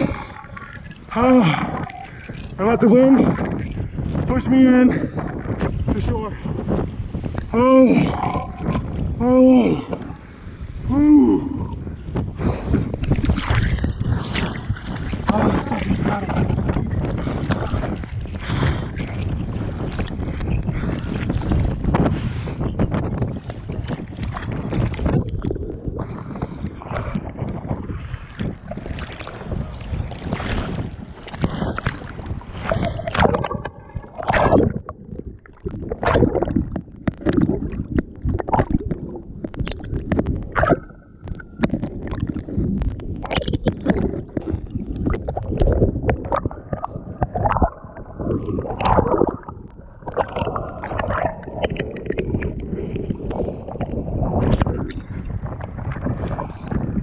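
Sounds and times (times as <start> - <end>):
waves splashing and gurgling: 0.0 - 57.0
wind buffeting microphone: 0.0 - 57.0.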